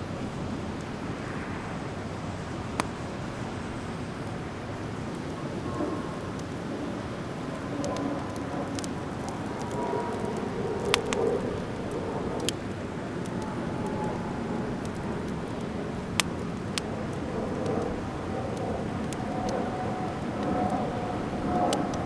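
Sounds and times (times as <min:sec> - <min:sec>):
fire crackling pops: 0:02.6 - 0:03.4, 0:04.2 - 0:22.0.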